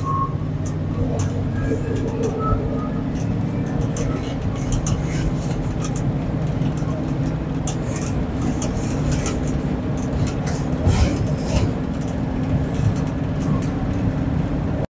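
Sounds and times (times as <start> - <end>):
engine drone: 0.0 - 14.9
tire and road noise: 0.0 - 14.9.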